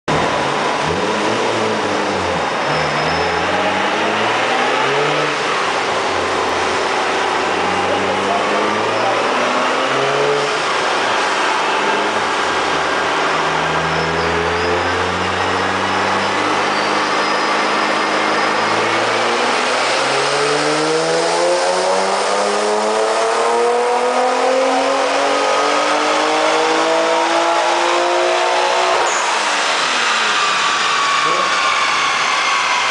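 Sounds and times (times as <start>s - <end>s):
car engine accelerating: 0.1s - 32.9s.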